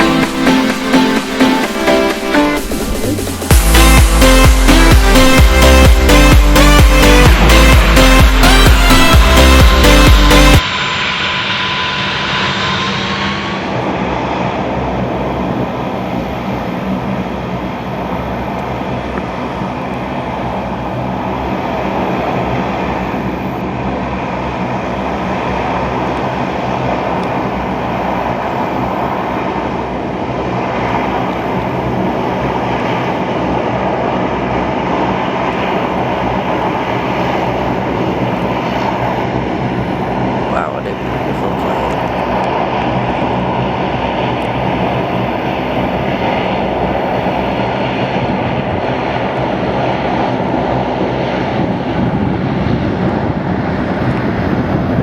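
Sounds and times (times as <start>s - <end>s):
faint jet whine: 0.0s - 55.0s
jet airliner rumble: 0.0s - 55.0s.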